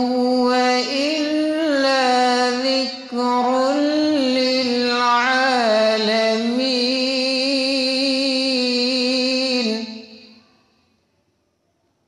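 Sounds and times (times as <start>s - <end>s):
man reciting melodically: 0.0s - 10.4s.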